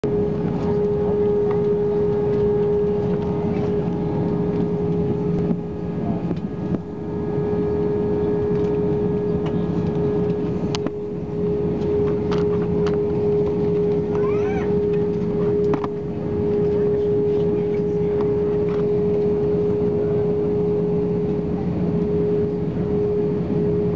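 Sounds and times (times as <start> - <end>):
airliner cabin engine hum: 0.0 - 23.9.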